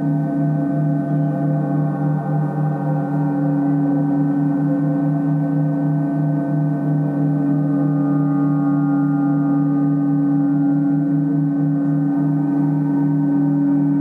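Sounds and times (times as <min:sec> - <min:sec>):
gongs ringing: 0:00.0 - 0:14.0
low pulsing tone: 0:00.0 - 0:14.0.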